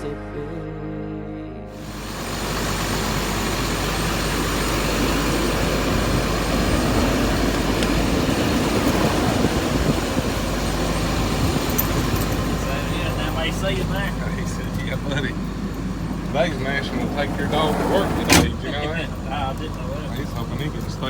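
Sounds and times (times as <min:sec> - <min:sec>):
engine rumble and hiss: 0:01.8 - 0:21.0.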